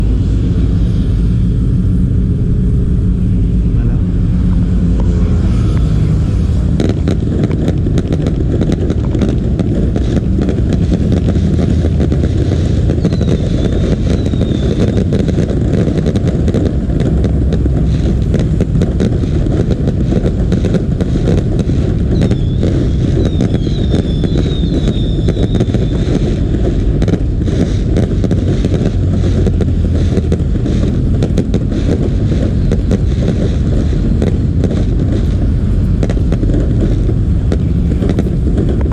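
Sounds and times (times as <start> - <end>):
firework whistles: 0.0 - 38.9
fireworks bangs and crackling: 0.0 - 38.9.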